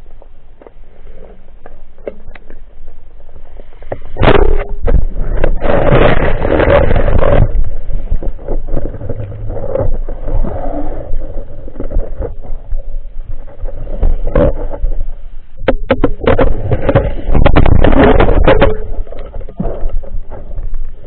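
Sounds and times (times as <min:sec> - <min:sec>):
muffled underwater rushing: 0:00.0 - 0:21.0.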